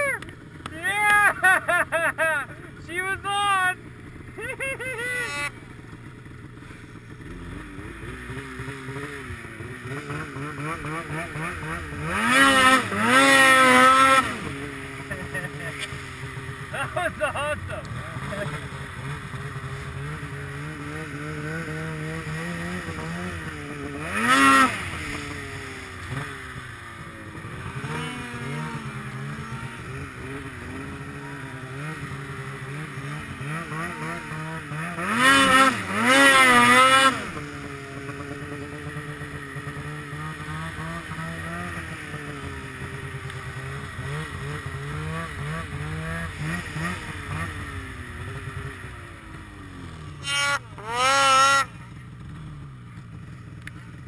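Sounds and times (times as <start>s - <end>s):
snowmobile engines running: 0.0s - 54.0s
loud engine revs: 7.2s - 52.6s.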